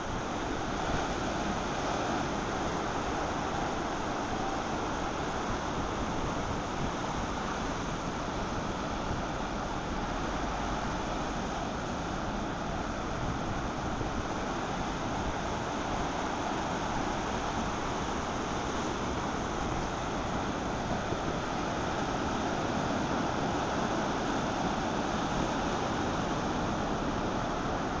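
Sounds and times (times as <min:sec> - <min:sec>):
ocean waves roaring: 0:00.0 - 0:28.0.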